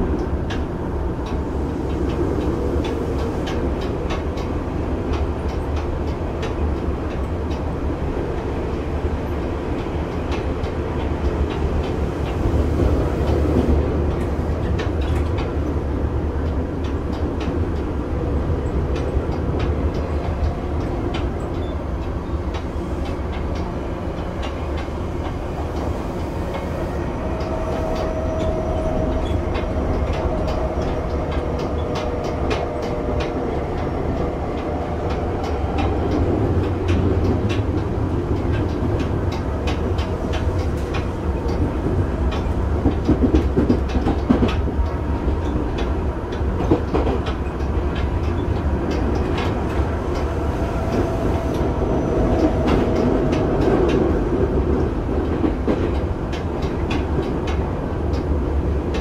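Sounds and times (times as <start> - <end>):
rail-joint clicks: 0.0 - 59.0
train wheels rumbling on rail: 0.0 - 59.0.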